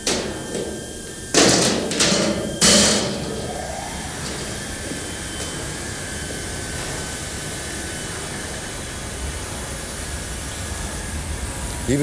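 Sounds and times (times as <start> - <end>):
grain-handling machinery running: 0.0 - 12.0.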